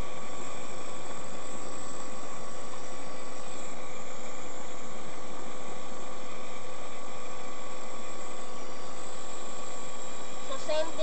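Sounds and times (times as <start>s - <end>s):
faint constant whine: 0.0s - 11.0s.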